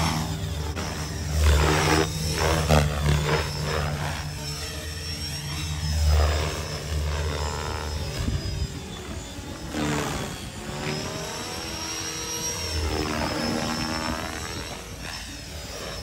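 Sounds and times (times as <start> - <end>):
electric motor whine: 0.0 - 16.0
helicopter rotor blades buzzing: 0.0 - 16.0.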